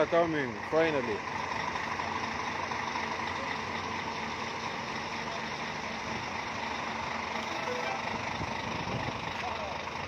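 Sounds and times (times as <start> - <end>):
bus engines droning: 0.0 - 10.0.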